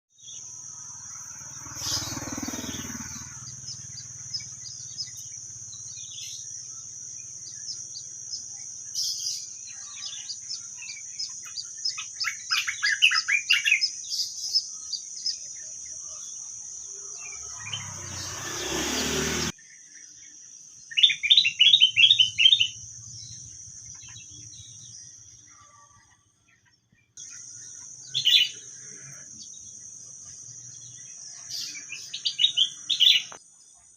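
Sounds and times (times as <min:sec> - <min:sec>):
birds chirping and calling: 0:00.2 - 0:33.9.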